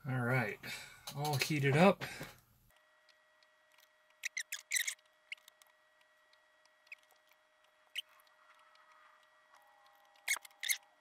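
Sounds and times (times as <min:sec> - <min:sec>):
faint steady whine: 0:00.0 - 0:11.0.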